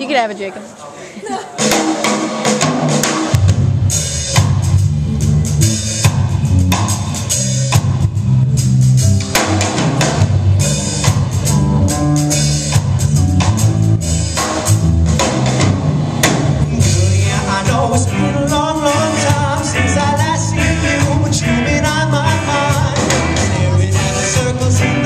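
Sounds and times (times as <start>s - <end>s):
live rock band playing: 1.6s - 25.0s.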